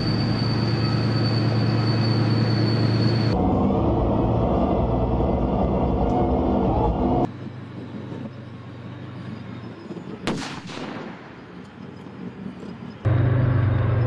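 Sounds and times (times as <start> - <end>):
armoured vehicle engine and tracks: 0.0 - 14.0.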